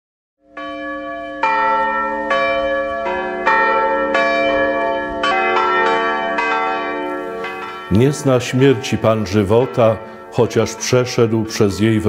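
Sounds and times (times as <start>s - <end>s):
church bells ringing: 0.4s - 12.0s.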